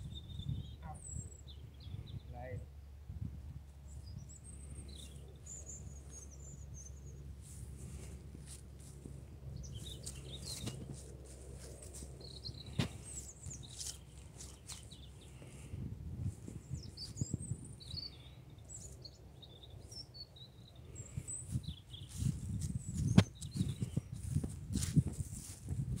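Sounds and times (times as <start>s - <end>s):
small birds chirping: 0.0s - 2.7s, 3.8s - 25.9s
steady low rumble: 0.0s - 26.0s.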